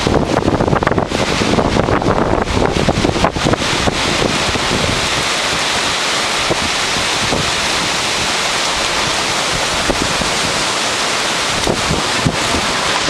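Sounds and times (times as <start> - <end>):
strong wind rushing: 0.0 - 13.0
wind buffeting microphone: 0.0 - 13.0.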